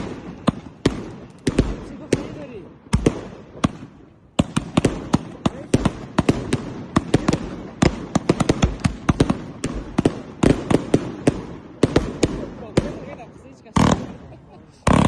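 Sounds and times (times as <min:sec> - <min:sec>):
firecracker bangs: 0:00.0 - 0:15.0.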